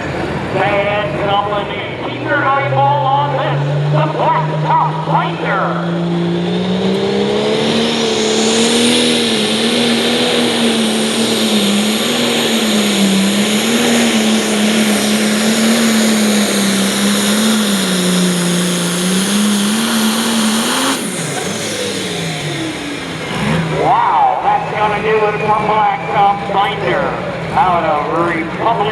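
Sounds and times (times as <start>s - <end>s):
tractor diesel engine at full throttle: 0.0s - 28.9s.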